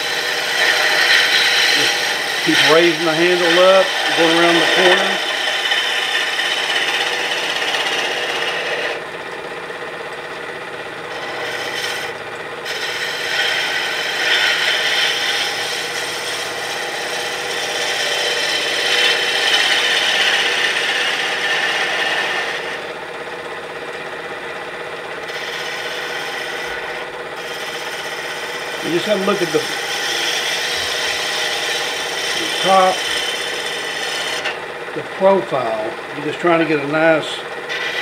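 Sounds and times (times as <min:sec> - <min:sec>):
lathe gouge cutting wood: 0:00.0 - 0:38.0.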